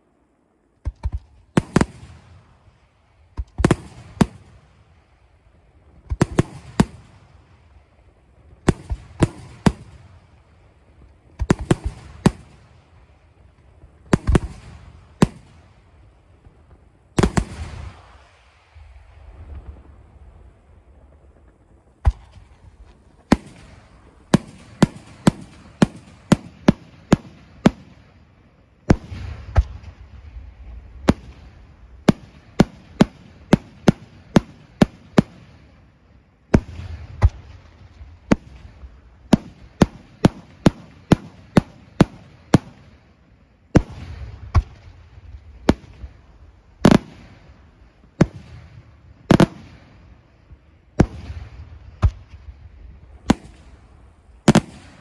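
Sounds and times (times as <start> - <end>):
low rumble and hiss: 0.0 - 55.0.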